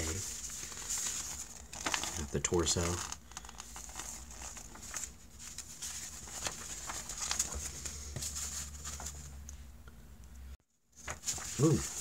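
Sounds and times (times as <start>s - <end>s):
paper pages rustling: 0.0s - 9.3s, 11.0s - 12.0s.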